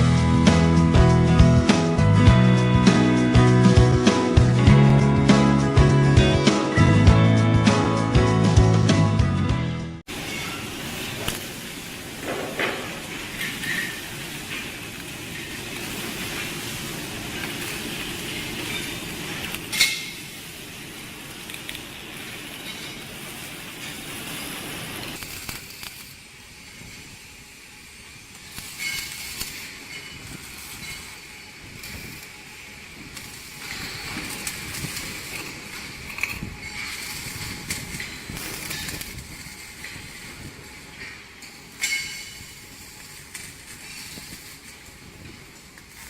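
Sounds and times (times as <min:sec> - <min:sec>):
welding arc crackling and hissing: 0:00.0 - 0:07.1, 0:10.0 - 0:46.0.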